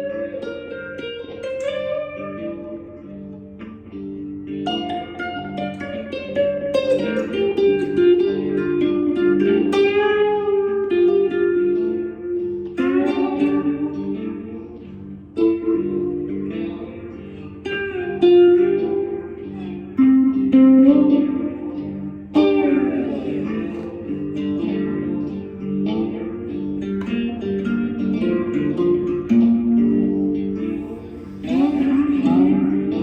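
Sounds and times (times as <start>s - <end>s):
slide guitar notes: 0.0s - 33.0s.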